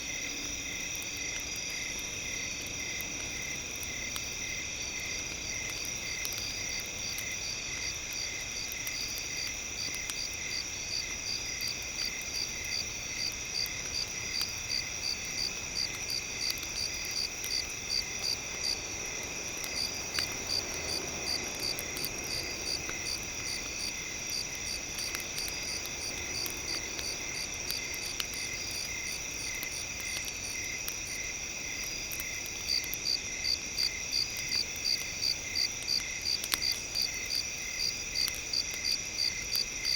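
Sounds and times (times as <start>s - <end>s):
crickets and insects chirping: 0.0s - 39.9s
faint crackles: 0.0s - 39.9s.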